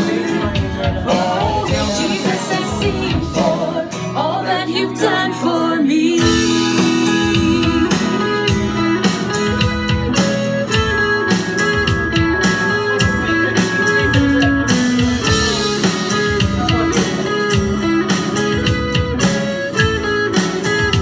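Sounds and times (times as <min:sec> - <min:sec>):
worship song with band: 0:00.0 - 0:19.6.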